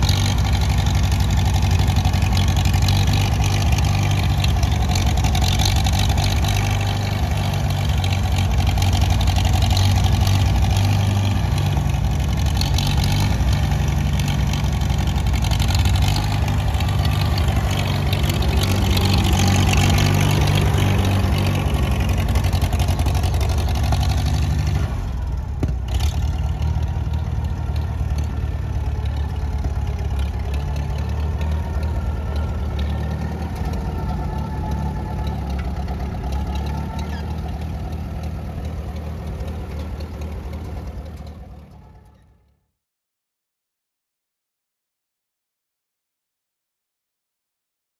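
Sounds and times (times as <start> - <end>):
tractor engine passing: 0.0 - 42.3.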